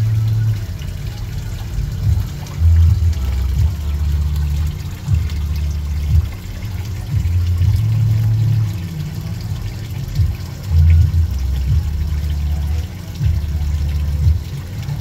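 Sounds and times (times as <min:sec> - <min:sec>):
running water rumble: 0:00.0 - 0:15.0.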